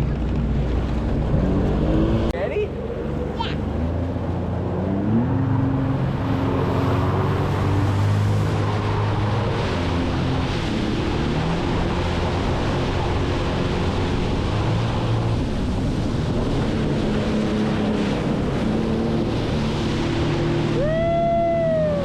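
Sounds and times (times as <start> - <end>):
jet ski engine running: 0.0 - 22.0
rush of wind and water: 0.0 - 22.0.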